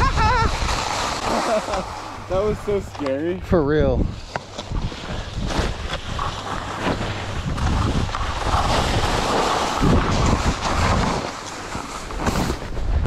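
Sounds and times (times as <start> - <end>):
skis scraping over snow: 0.0 - 13.0
wind on microphone: 0.0 - 13.0.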